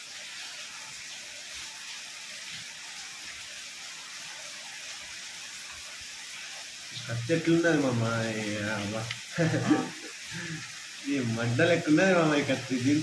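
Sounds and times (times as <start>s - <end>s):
food sizzling in a hot pan: 0.0s - 13.0s.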